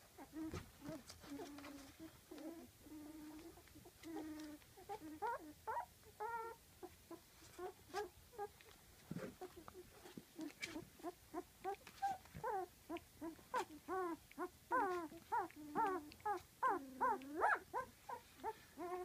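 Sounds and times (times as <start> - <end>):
puppies whining and squeaking: 0.1 - 19.0.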